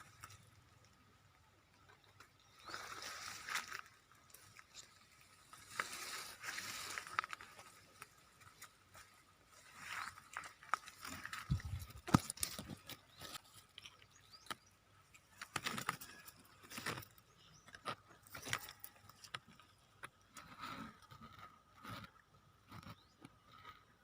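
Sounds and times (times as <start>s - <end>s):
leaves and twigs rustling: 0.0s - 20.2s.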